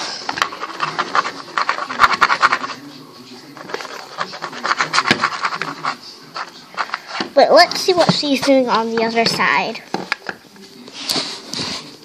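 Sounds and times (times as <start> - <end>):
stick scratching wooden floor: 0.0 - 10.4.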